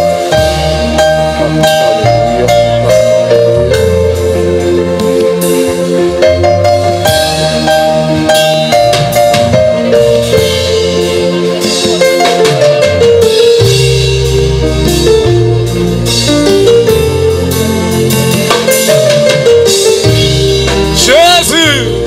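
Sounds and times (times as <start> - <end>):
moving bass line: 0.0 - 22.0
steady drum beat: 0.0 - 22.0.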